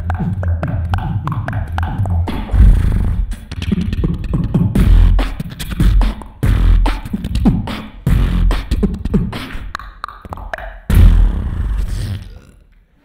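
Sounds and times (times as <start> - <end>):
beatboxing through microphone: 0.0 - 12.8.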